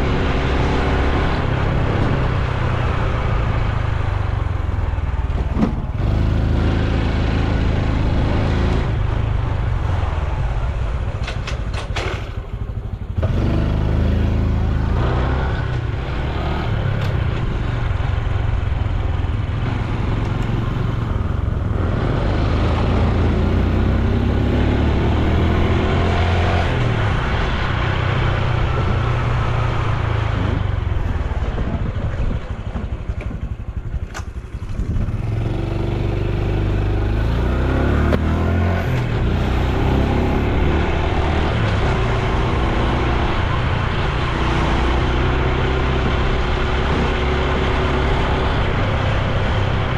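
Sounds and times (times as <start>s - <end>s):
motorcycle engine and exhaust: 0.0s - 49.9s.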